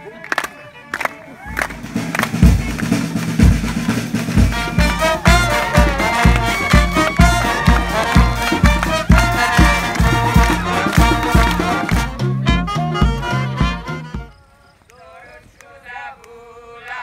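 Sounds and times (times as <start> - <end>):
upbeat band music with horns: 0.3 - 14.3.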